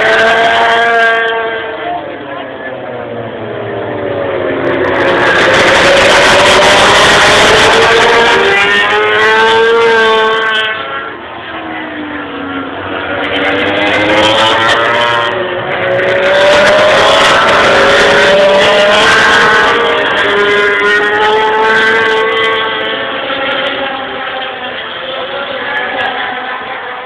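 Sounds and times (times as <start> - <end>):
racing motorcycles at full throttle: 0.0 - 27.0.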